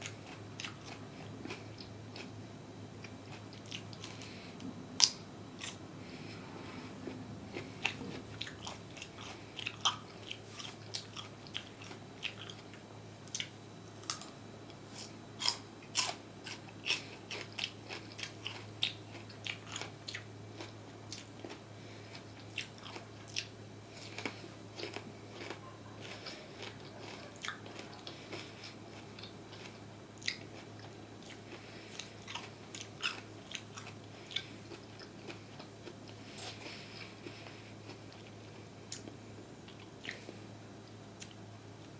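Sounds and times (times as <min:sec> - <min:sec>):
chewing crunchy food: 0:00.0 - 0:41.9.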